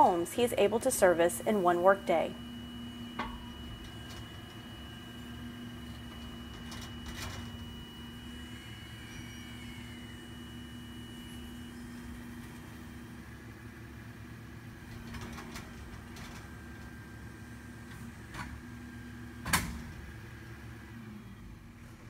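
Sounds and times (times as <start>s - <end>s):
hydraulic boom hum: 0.0s - 22.0s
truck engine running: 0.0s - 22.0s.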